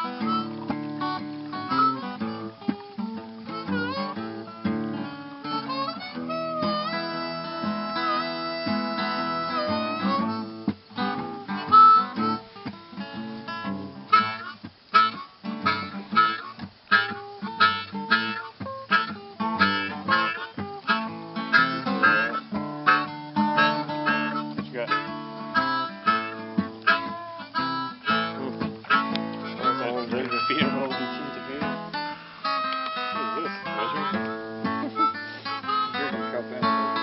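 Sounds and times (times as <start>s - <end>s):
harmonica notes: 0.0s - 37.0s
picked acoustic guitar: 0.0s - 37.0s.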